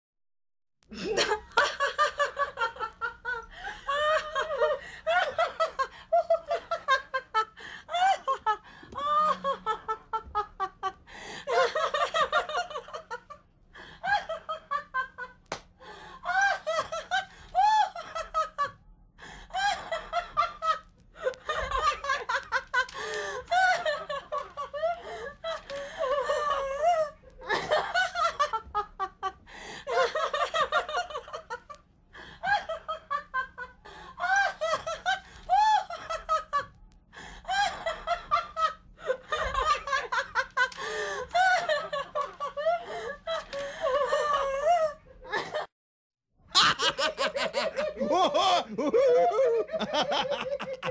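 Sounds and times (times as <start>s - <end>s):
hearty laughter: 0.9s - 45.7s, 46.5s - 50.9s.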